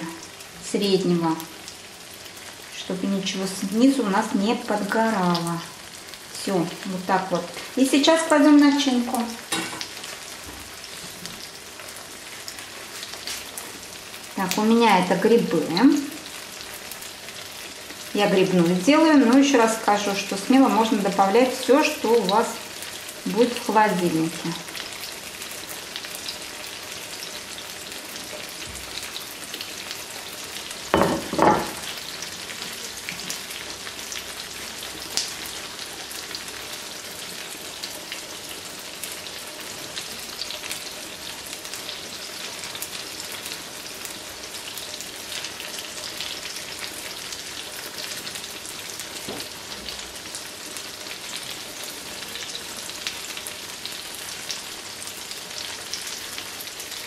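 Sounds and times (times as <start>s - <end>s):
dough sizzling in oil: 0.0s - 57.0s.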